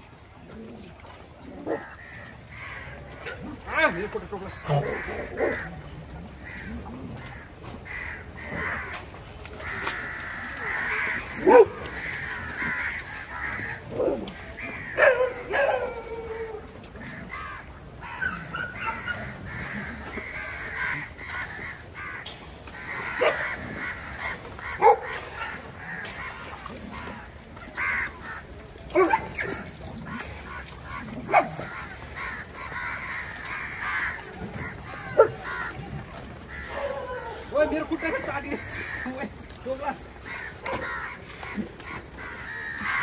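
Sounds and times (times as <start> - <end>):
dogs barking and yelping: 0.6 - 21.9, 22.7 - 38.8, 40.4 - 43.0.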